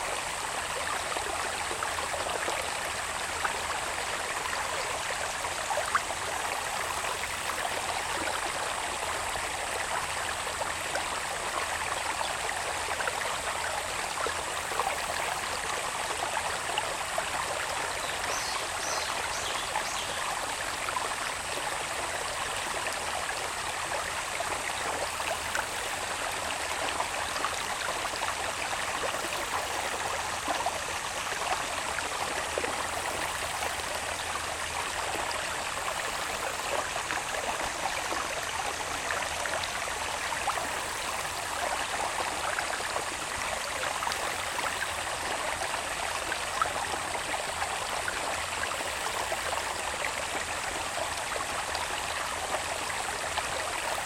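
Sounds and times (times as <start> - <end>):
water babbling in channel: 0.0 - 54.0.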